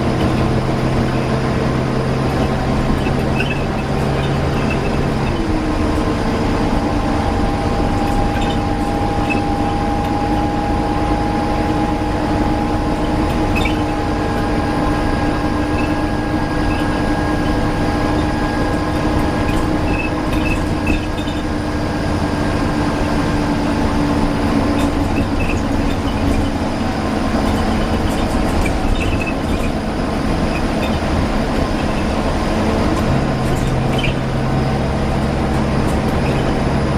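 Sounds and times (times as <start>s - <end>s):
bus running noise: 0.0s - 36.9s
loud steady whine: 0.0s - 36.9s.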